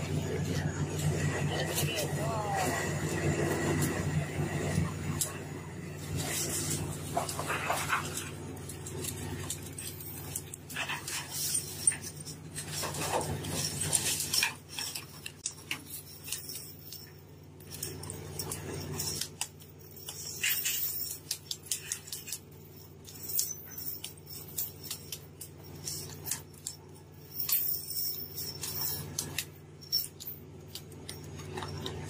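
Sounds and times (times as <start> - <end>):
boat machinery hum: 0.0 - 32.0
chains and gear clanking: 0.0 - 32.0.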